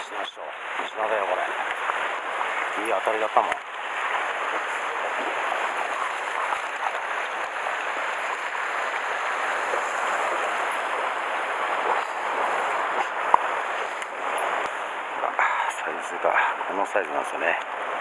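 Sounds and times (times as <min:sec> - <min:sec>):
sea surf on rocks: 0:00.0 - 0:18.0.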